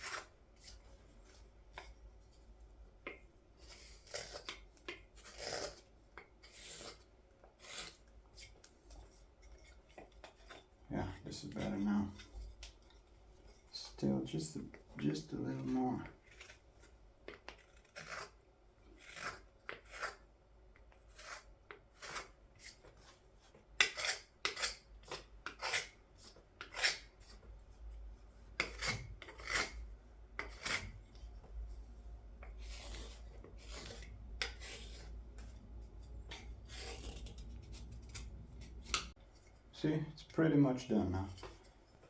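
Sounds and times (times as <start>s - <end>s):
knife scraping wood: 0.0s - 2.4s, 3.0s - 13.7s, 14.5s - 27.8s, 28.4s - 31.3s, 32.4s - 39.6s.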